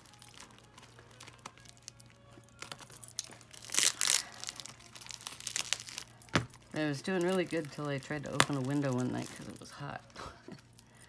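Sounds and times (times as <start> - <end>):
bag of jewelry crinkling: 0.0 - 11.0
faint background music: 0.0 - 11.0.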